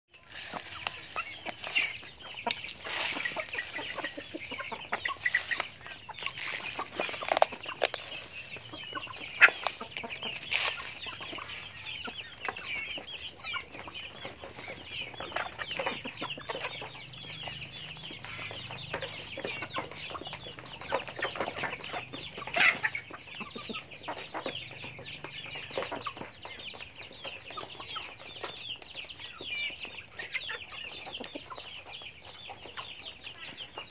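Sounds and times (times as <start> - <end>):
chickens clucking: 0.1 - 33.9.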